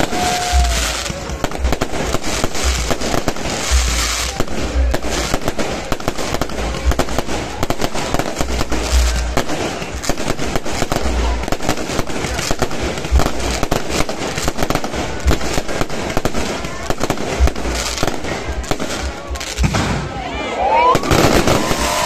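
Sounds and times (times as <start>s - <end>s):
deep fireworks booms: 0.0s - 22.0s
fireworks bangs and crackles: 0.0s - 22.0s.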